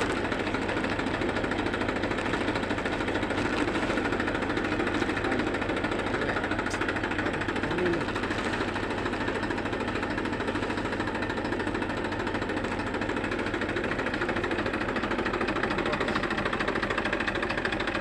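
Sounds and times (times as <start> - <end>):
tractor diesel engine knocking: 0.0 - 18.0.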